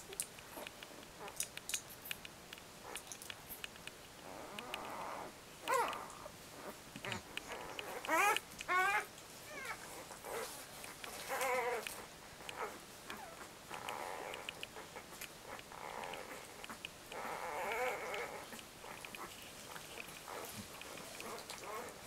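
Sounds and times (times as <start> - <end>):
puppies suckling clicks: 0.0 - 22.0
puppies squeaking and whining: 4.3 - 22.0.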